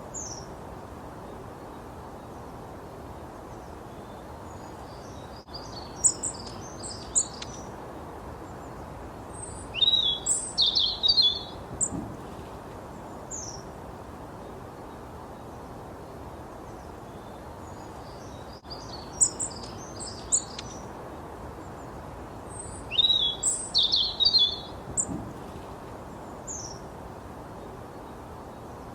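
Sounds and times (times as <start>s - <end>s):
background hiss: 0.0s - 28.9s
songbird chirping: 3.5s - 13.7s, 14.4s - 28.9s.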